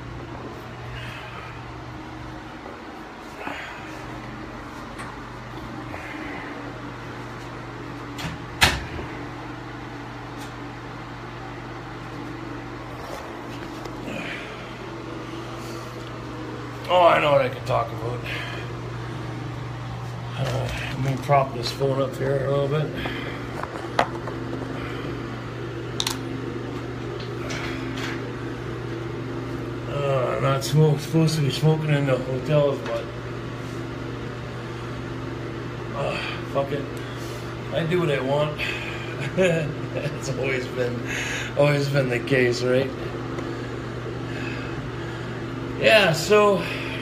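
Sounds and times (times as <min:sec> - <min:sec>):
ventilation fan hum: 0:00.0 - 0:47.0.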